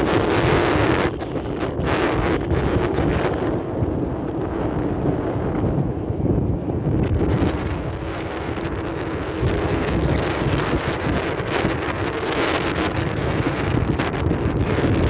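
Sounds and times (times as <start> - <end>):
strong wind buffeting microphone: 0.0 - 15.0
wind sculpture low tones: 0.0 - 15.0.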